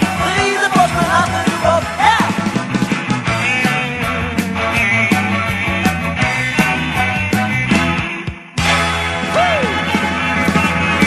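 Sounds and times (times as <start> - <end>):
band music with drums: 0.0 - 11.0.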